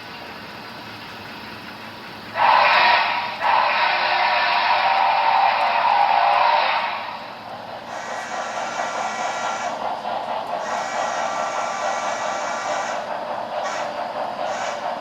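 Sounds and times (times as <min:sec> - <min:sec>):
model steam train hissing: 0:00.0 - 0:15.0.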